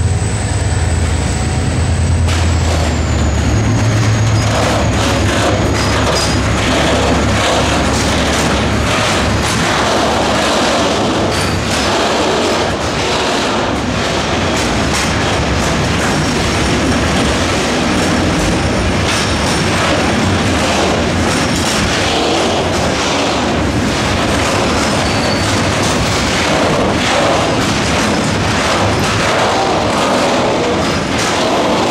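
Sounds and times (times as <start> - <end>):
train wheels rumbling on rails: 0.0 - 31.9
wheels clacking over rail joints: 2.3 - 31.9.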